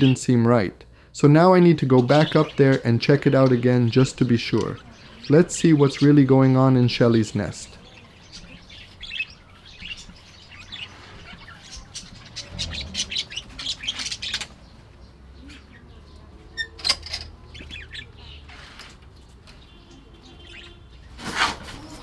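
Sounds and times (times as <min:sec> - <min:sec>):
budgerigars chirping and chattering: 0:00.0 - 0:00.2, 0:01.8 - 0:16.8, 0:17.4 - 0:18.8, 0:19.6 - 0:20.9.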